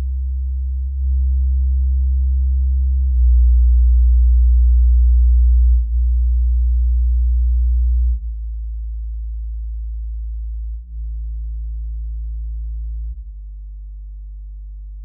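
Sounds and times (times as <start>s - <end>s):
low bass test tone hum: 0.0s - 15.0s.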